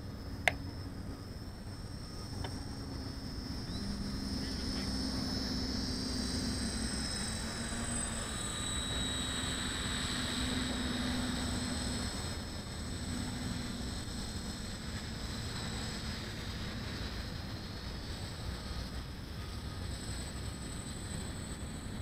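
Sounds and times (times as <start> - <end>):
faint high whine: 0.0 - 22.0
low hum like distant engine: 0.0 - 22.0.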